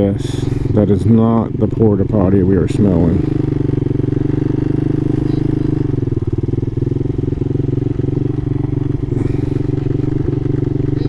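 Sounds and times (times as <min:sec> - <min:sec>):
mini motorcycle engine running: 0:00.0 - 0:11.0.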